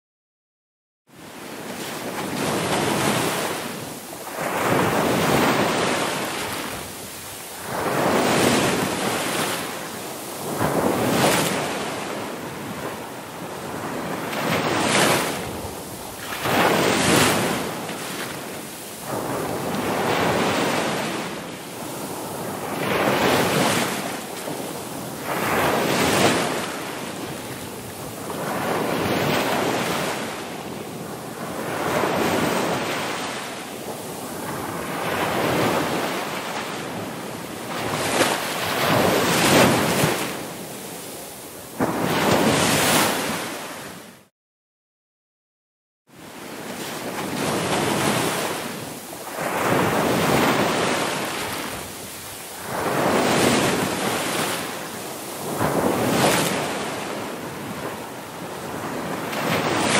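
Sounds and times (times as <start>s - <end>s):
ocean waves breaking: 1.2s - 44.3s, 46.2s - 59.9s.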